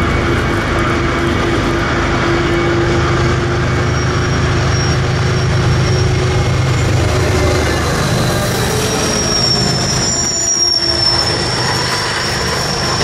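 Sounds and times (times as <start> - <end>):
diesel locomotive engines running: 0.0 - 13.0
high wheel squeal: 0.9 - 13.0.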